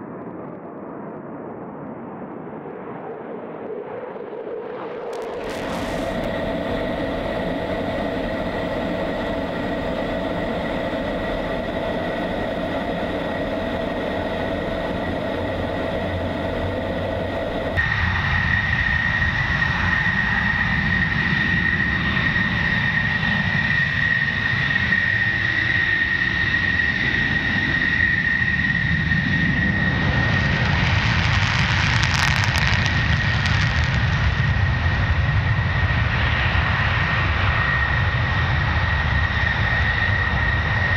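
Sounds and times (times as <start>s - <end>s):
jet engine whine: 0.0s - 40.9s.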